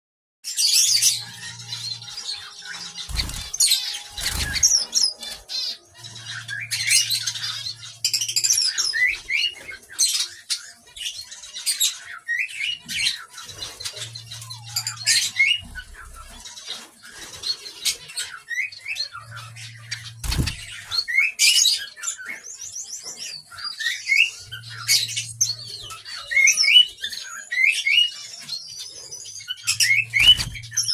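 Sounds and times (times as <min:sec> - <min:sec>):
finches chirping: 0:00.6 - 0:30.9.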